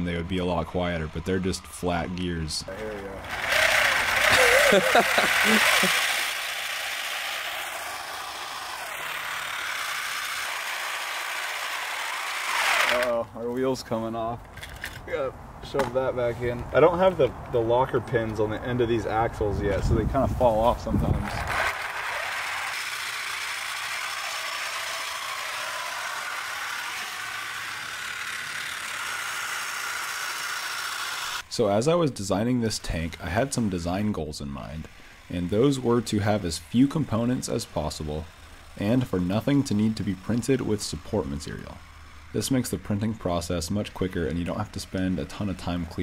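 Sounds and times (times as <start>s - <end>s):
loud gear noise: 0.0s - 13.2s, 20.8s - 46.0s.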